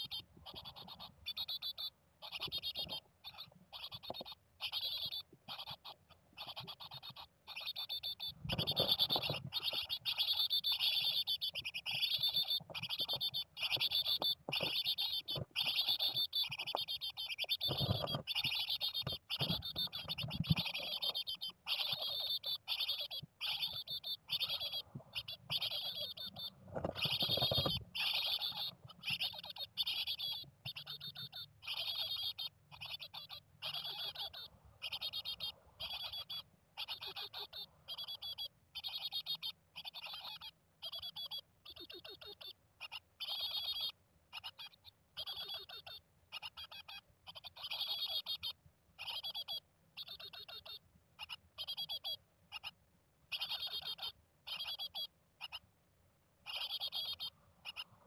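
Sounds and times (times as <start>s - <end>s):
nestlings calling: 0.0s - 55.6s, 56.4s - 58.0s.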